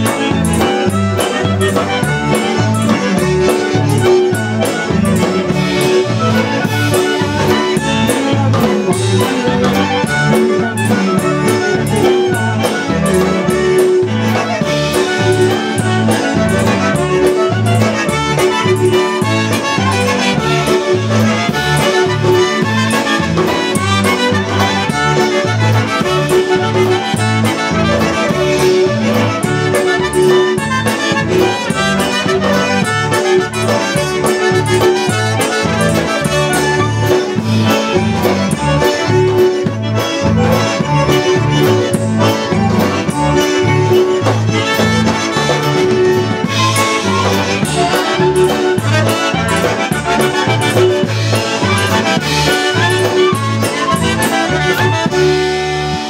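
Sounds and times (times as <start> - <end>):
concertinas playing: 0.0 - 56.0
electric bass oom-pah line: 0.0 - 56.0
trumpet: 0.0 - 56.0.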